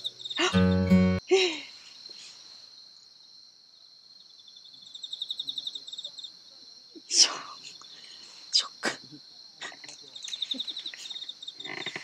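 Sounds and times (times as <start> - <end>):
high-pitched insect trill: 0.0 - 6.4, 7.0 - 12.0
cricket chirping: 0.0 - 12.0.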